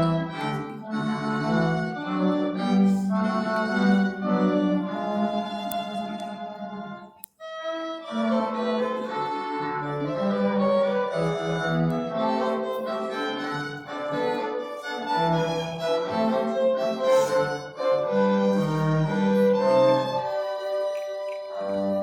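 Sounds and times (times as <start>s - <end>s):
cello: 0.0s - 22.0s
violin: 0.0s - 22.0s.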